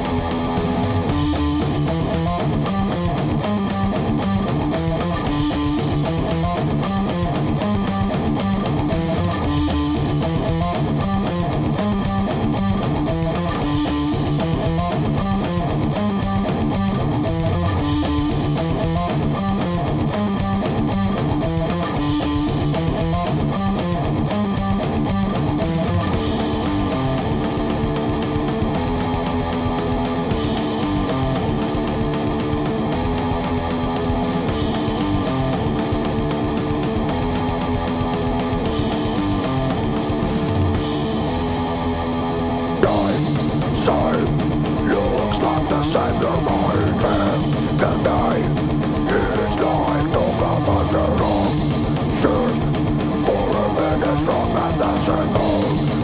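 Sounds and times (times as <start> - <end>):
fast drums: 0.0 - 41.7, 42.8 - 56.0
bass guitar: 0.0 - 56.0
distorted electric guitar riffing: 0.0 - 56.0.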